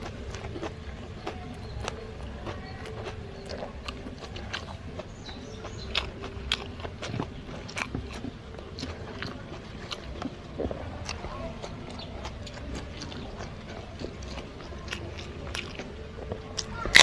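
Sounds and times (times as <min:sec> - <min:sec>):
wet chewing clicks and smacks: 0:00.0 - 0:17.0.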